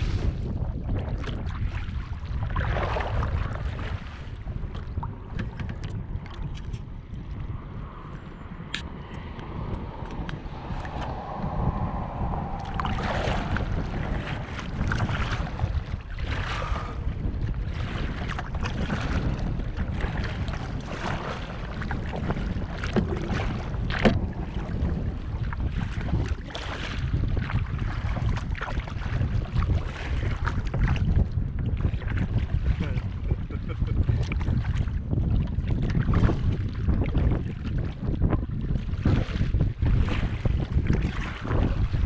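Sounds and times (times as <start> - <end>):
water splashing from paddling: 0.0 - 7.3, 8.6 - 38.1, 38.8 - 42.0
wind rumbling on microphone: 0.0 - 42.0.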